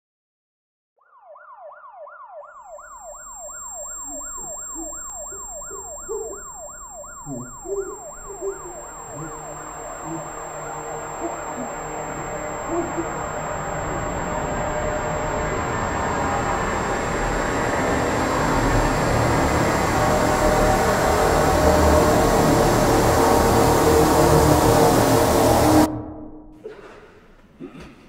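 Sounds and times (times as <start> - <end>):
siren yelping: 1.0 - 25.9.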